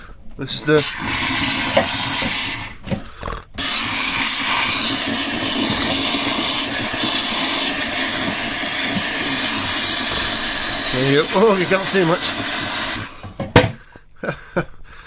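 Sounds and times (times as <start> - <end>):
steam cleaner hissing: 0.0 - 3.0, 3.6 - 13.8.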